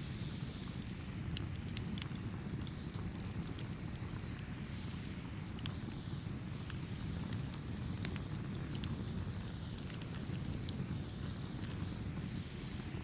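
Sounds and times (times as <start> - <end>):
campfire rumble: 0.0 - 13.0
fire crackles and pops: 0.0 - 13.0.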